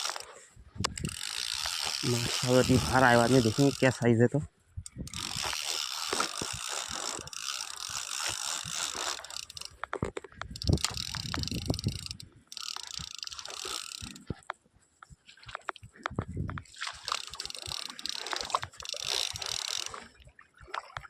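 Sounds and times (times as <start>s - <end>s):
fishing reel ratcheting: 0.0s - 4.2s, 4.8s - 14.5s, 16.7s - 20.2s.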